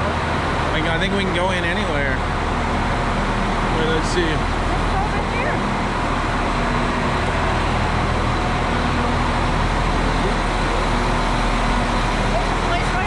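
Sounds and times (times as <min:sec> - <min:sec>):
diesel train engine idling: 0:00.0 - 0:13.0
low hum: 0:00.0 - 0:13.0.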